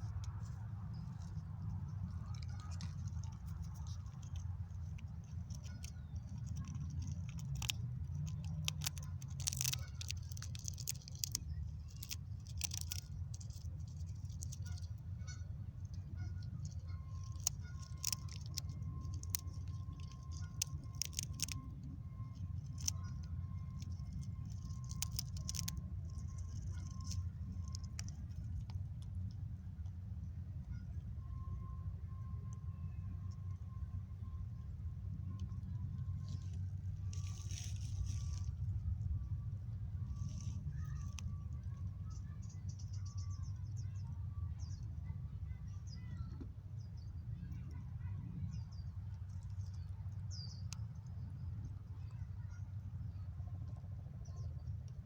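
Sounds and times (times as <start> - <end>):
squirrel cracking peanuts: 0.0 - 55.0
steady low rumble: 0.0 - 55.0.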